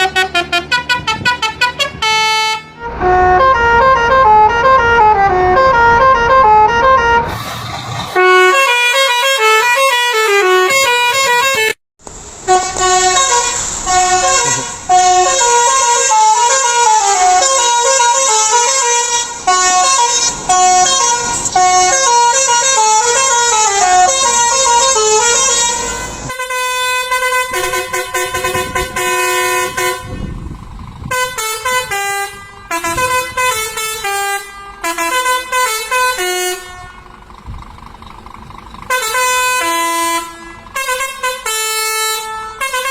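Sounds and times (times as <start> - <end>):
multi-note air horns playing tunes: 0.0 - 7.3, 8.1 - 11.8, 12.4 - 30.4, 31.1 - 37.0, 38.9 - 42.9.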